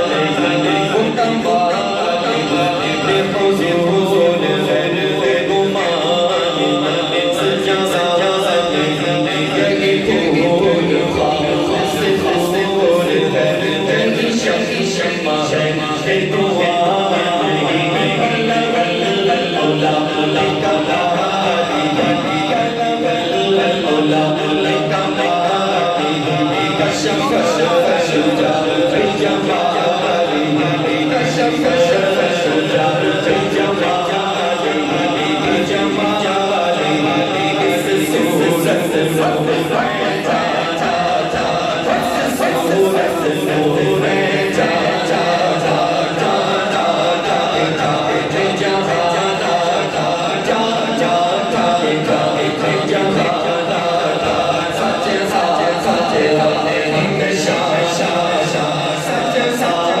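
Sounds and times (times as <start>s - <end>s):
man chanting into a microphone: 0.0s - 60.0s
rhythmic hand claps: 0.0s - 60.0s.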